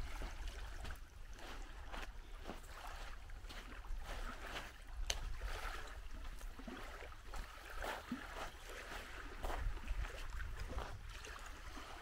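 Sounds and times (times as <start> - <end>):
small waves lapping at shore: 0.0 - 12.0.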